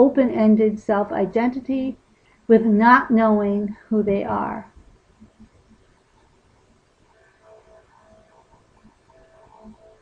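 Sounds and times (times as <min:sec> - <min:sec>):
faint steady tones: 0:00.0 - 0:10.0.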